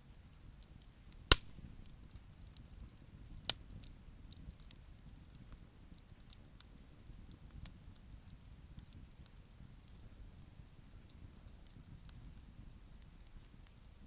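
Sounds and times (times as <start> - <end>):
fire popping: 0.0 - 14.0
wood bonfire crackling: 0.0 - 14.0.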